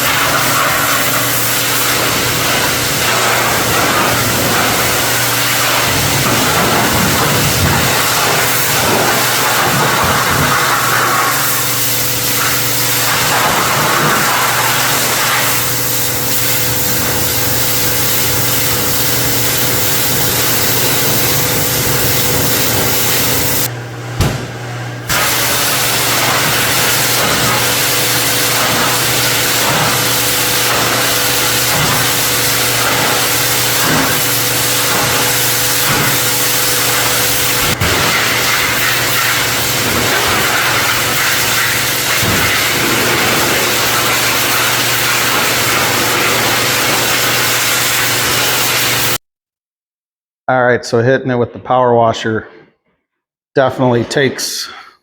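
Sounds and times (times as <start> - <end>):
pressure washer humming: 0.0 - 49.2
pressure washer water jet hissing: 0.0 - 49.2.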